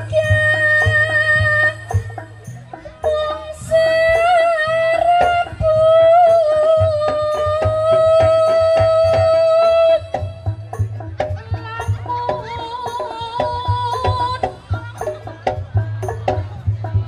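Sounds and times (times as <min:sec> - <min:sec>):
drum strokes: 0:00.0 - 0:17.0.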